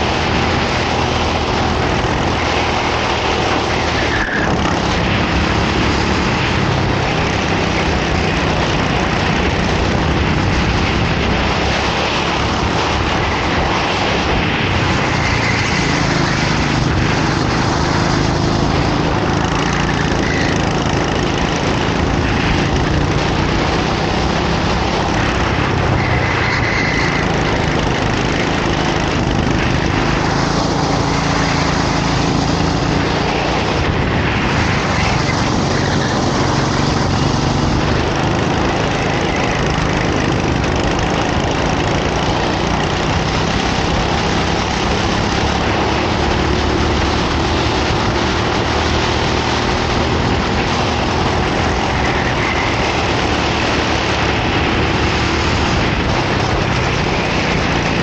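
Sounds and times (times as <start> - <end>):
racing kart engine revving: 0.0 - 58.0
steady rushing noise: 0.0 - 58.0.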